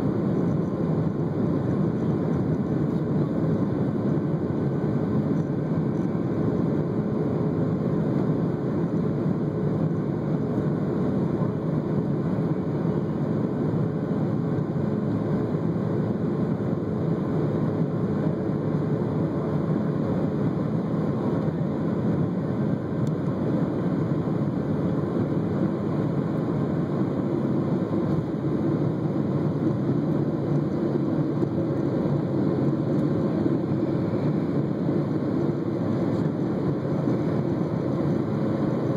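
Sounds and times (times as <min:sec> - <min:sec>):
jet engines and rushing airflow: 0:00.0 - 0:38.9.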